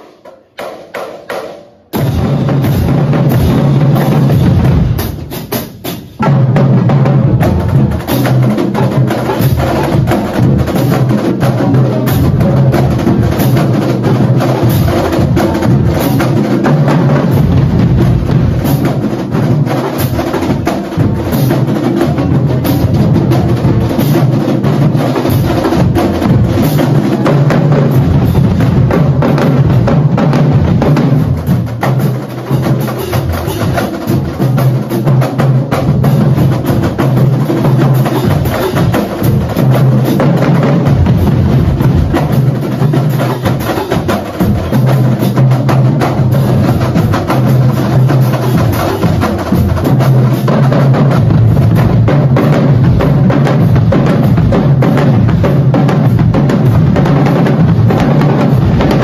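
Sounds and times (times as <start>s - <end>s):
marching bass drums: 0.0s - 59.0s
snare drums: 0.0s - 59.0s
tenor drums: 0.0s - 59.0s.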